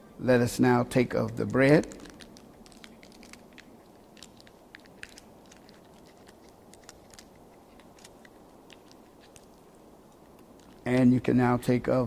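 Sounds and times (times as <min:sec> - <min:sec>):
small packet crinkling: 0:01.0 - 0:11.1.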